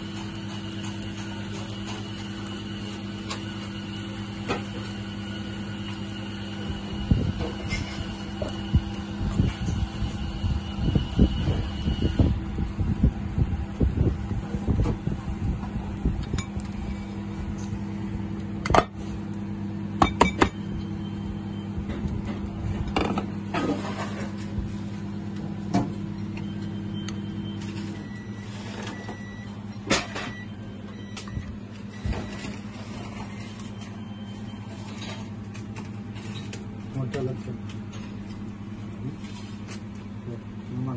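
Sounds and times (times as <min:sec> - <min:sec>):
kitchen equipment humming: 0:00.0 - 0:40.9.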